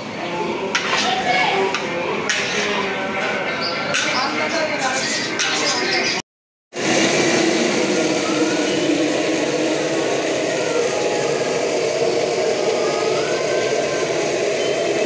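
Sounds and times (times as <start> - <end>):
gas burner roaring: 0.0 - 4.2, 6.7 - 15.0.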